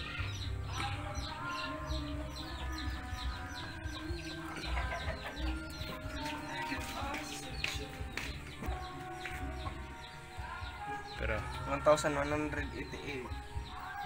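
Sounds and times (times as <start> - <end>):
chickens clucking: 0.0 - 14.0
music playing: 0.0 - 14.0
small birds chirping: 0.0 - 14.0.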